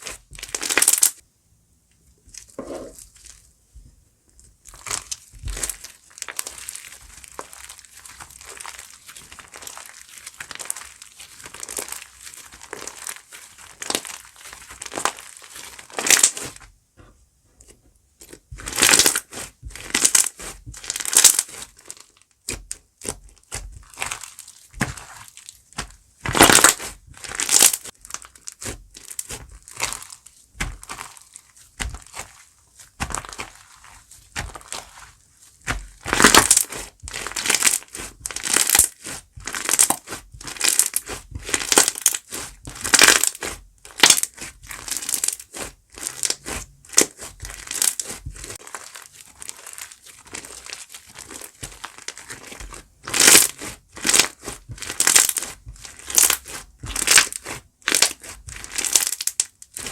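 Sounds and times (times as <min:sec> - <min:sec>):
foam slime crunching and crackling: 0:00.0 - 0:01.2, 0:04.5 - 0:16.7, 0:18.2 - 0:59.9.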